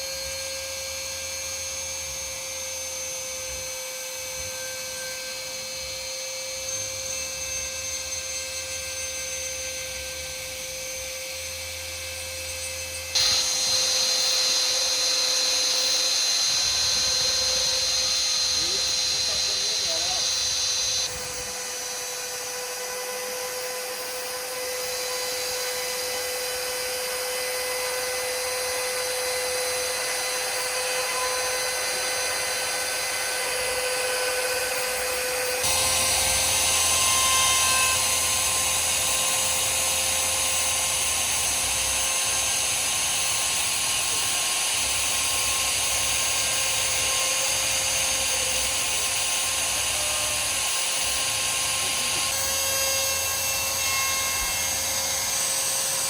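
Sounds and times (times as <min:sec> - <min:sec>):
router spindle whining: 0:00.0 - 0:56.0.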